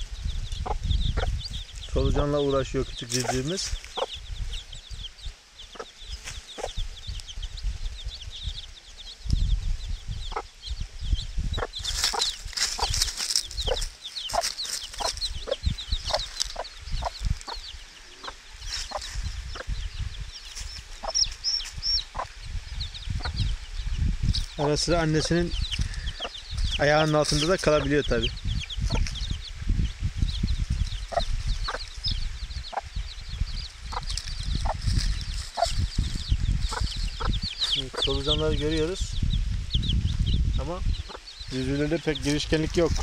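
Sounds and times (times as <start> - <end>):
hen clucking: 0.0 - 1.5, 3.0 - 7.3, 10.2 - 23.5, 24.3 - 29.3, 30.3 - 38.8, 40.7 - 43.0
low rumbling thumps: 0.0 - 5.3, 6.0 - 17.8, 18.8 - 43.0
chicks peeping: 0.0 - 43.0.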